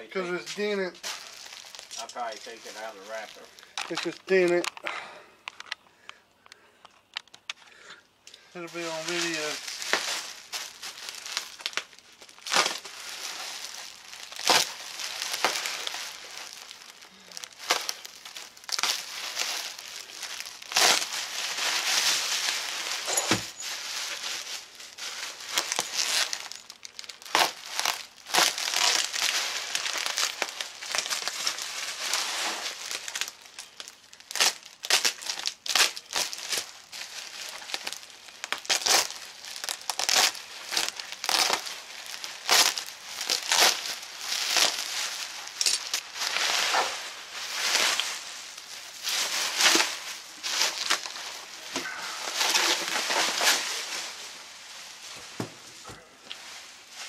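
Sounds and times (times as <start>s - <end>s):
bubble wrap crinkling: 0.0s - 4.9s, 8.4s - 57.0s
bubble wrap snapping: 0.6s - 4.8s, 8.6s - 57.0s.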